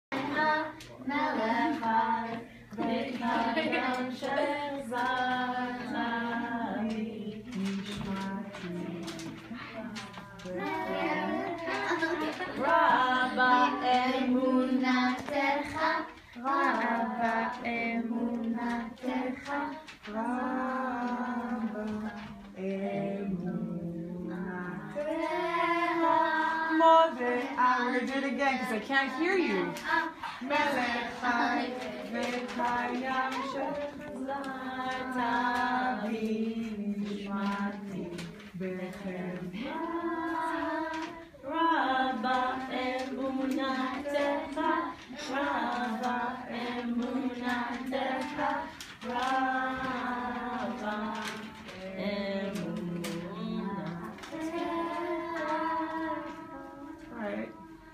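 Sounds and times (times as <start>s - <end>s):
children singing together: 0.0s - 57.9s.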